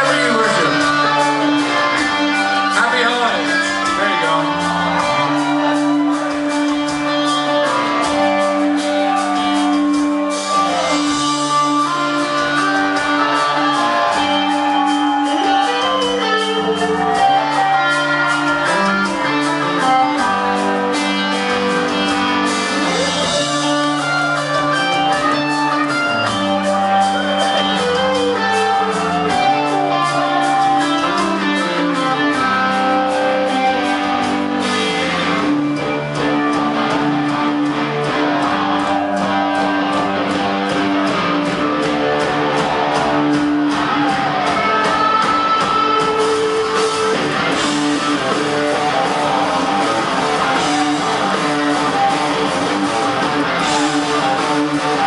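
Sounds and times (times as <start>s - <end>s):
electric guitar: 0.0s - 55.0s
rock band playing live: 0.0s - 55.0s.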